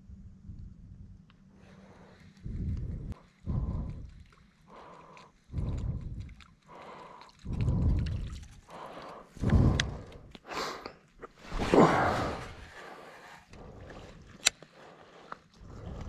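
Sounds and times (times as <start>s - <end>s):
heavy breathing: 1.6s - 16.0s.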